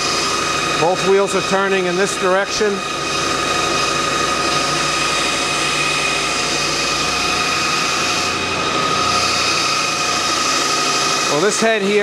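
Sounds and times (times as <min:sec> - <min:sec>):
belt grinder humming: 0:00.0 - 0:12.0.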